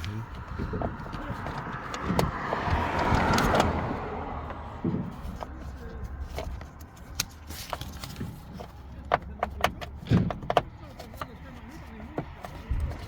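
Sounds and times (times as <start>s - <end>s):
plastic car trim clicking: 0.0s - 13.0s.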